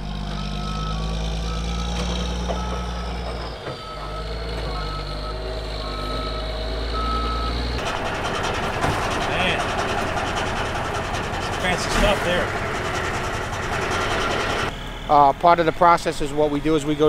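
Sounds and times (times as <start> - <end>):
truck backup alarm beeping: 0.0 - 11.4, 12.5 - 15.3
diesel engine running: 0.0 - 17.0.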